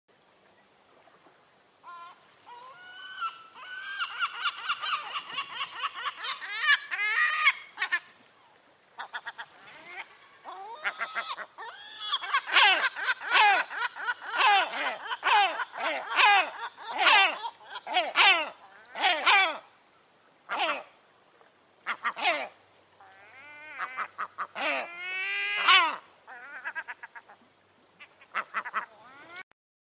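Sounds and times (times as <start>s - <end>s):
gull calling: 1.8s - 8.2s, 9.0s - 19.7s, 21.8s - 27.4s, 28.0s - 29.4s.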